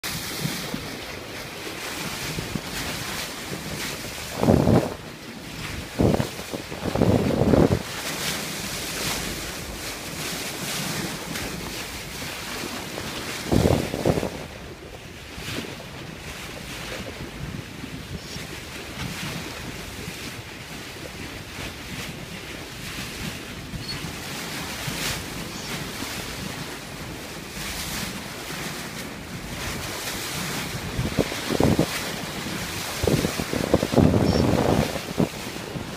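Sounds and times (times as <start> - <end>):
water rushing along hull: 0.0 - 35.9
wind buffeting microphone: 0.0 - 35.9.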